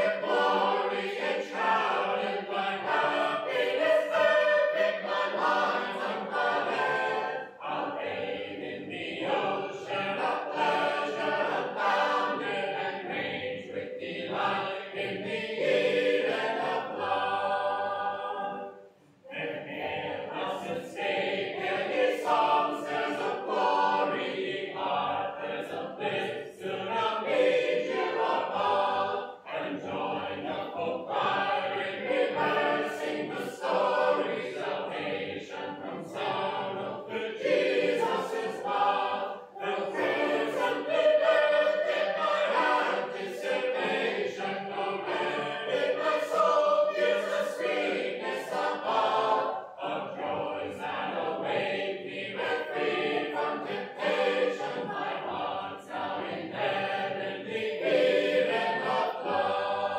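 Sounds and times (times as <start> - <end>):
group singing hymn unaccompanied: 0.0 - 59.9.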